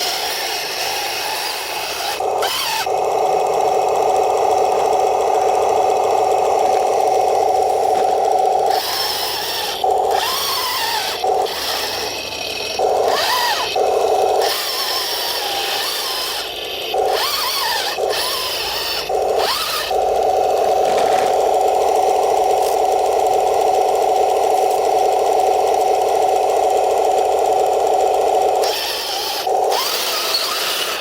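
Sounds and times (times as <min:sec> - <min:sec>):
toy tank buzzing drone: 0:00.0 - 0:31.0
tracks grinding with motor whine: 0:00.0 - 0:31.0.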